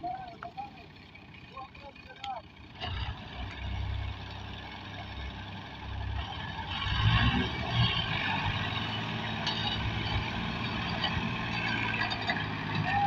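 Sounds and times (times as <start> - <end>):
diesel tractor engines under load: 0.0 - 13.0.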